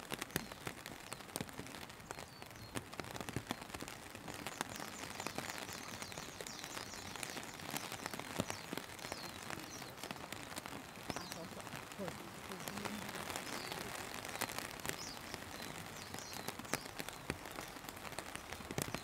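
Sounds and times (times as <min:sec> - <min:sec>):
rain hissing: 0:00.0 - 0:19.0
raindrops ticking close: 0:00.0 - 0:19.0.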